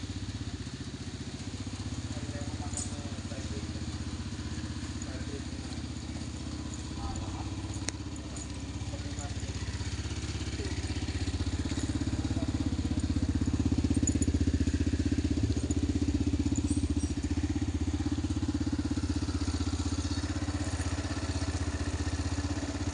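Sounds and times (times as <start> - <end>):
atv engine idling: 0.0 - 22.9.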